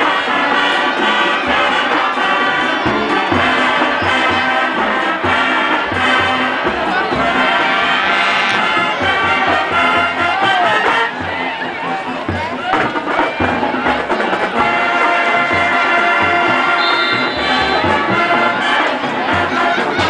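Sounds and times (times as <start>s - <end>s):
brass section playing a tune: 0.0s - 20.0s
steady drum beat: 0.0s - 20.0s.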